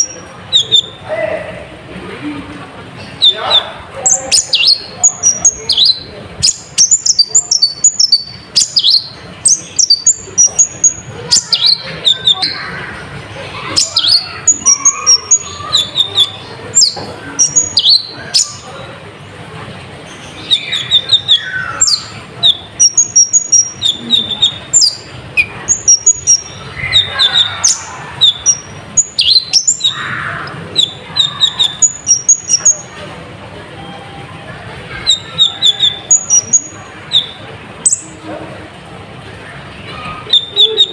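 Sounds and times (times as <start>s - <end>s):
sunbird chirping and trilling: 0.0s - 1.4s, 3.0s - 19.0s, 20.0s - 33.0s, 33.7s - 38.2s, 39.8s - 40.9s.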